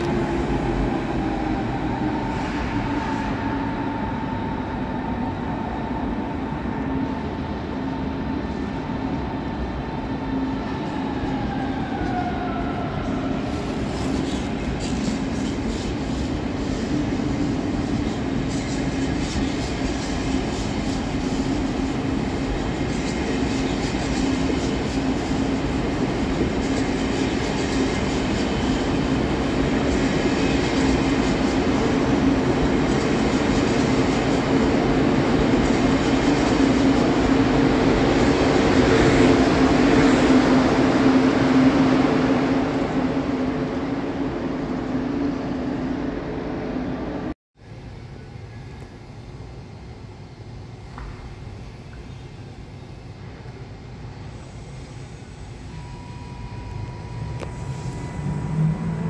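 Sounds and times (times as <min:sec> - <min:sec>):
train low hum: 0:00.0 - 0:59.0.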